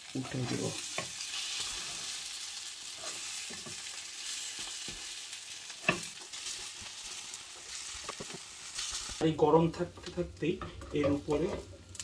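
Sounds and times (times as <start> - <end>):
food sizzling in a frying pan: 0.0 - 12.0
wooden spatula scraping the pan: 0.2 - 2.3, 2.9 - 3.9, 4.5 - 9.2, 9.8 - 11.8.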